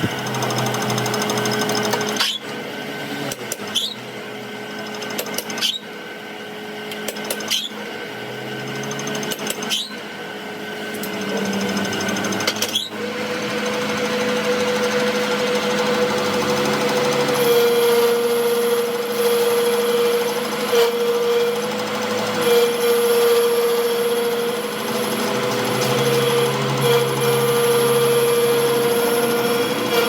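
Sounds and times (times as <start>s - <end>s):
workshop machine humming: 0.0s - 30.0s.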